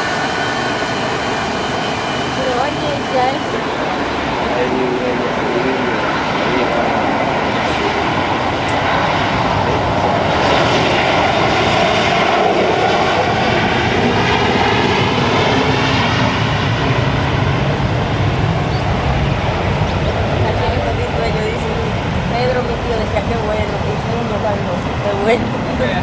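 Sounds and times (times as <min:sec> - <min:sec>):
airliner engines passing: 0:00.0 - 0:26.0.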